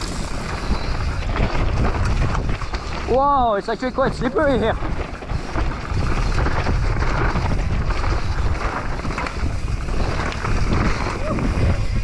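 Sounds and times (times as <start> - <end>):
bike rattling and knocking: 0.0 - 12.0
tyres rumbling on dirt: 0.0 - 12.0
wind buffeting microphone: 0.0 - 12.0.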